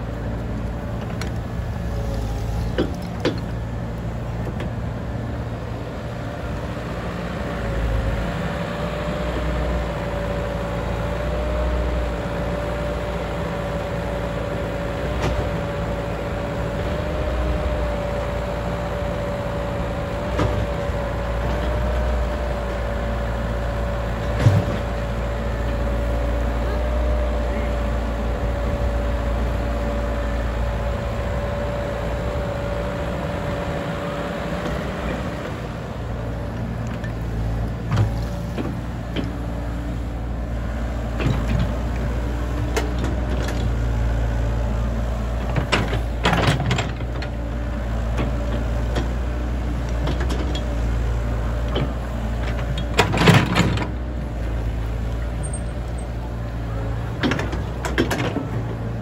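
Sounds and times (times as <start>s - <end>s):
excavator diesel engine running: 0.0s - 59.0s
thin whine of swinging excavator: 0.0s - 59.0s.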